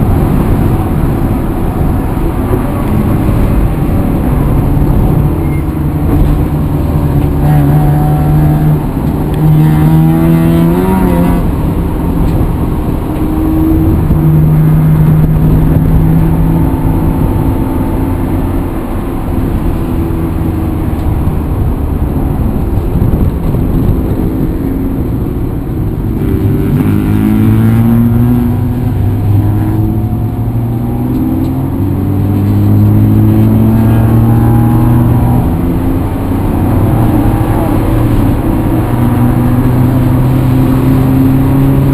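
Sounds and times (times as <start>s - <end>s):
vehicle engine accelerating: 0.0s - 41.9s.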